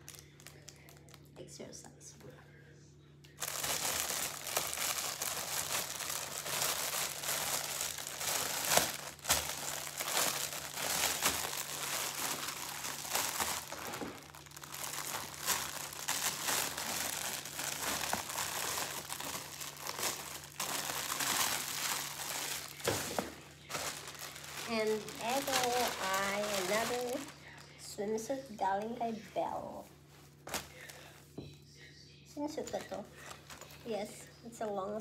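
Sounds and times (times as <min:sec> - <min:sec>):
plastic packaging crinkling: 0:00.0 - 0:01.3, 0:03.3 - 0:29.2, 0:30.4 - 0:31.1, 0:32.6 - 0:34.1.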